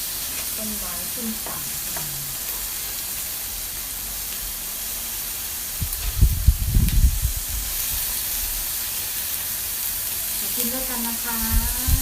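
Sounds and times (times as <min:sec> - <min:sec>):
food sizzling on grill pan: 0:00.0 - 0:12.0.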